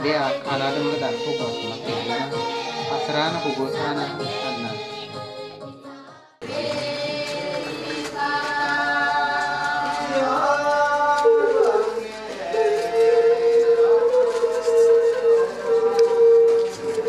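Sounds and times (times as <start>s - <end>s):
voices singing unaccompanied: 0.0s - 17.0s.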